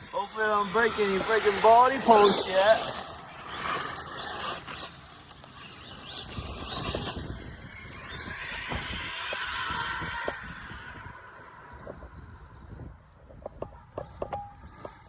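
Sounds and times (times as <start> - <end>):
electric motor whining: 0.0 - 13.0
tyres on rough ground: 0.0 - 15.0.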